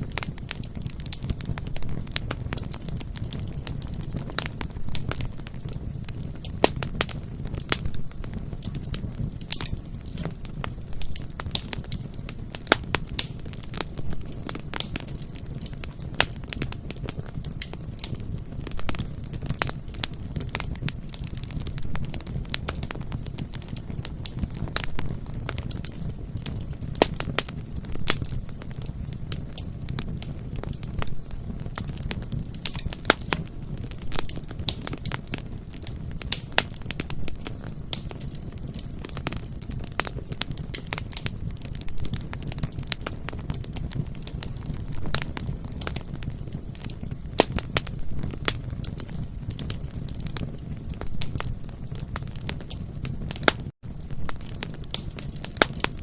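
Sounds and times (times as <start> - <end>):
burning wood crackling and popping: 0.0 - 56.0
low rumble of flames: 0.0 - 56.0.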